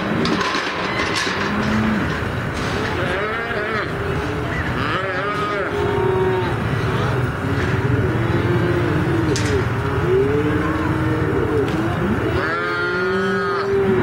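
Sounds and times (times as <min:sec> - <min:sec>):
calves bawling: 0:00.0 - 0:14.0.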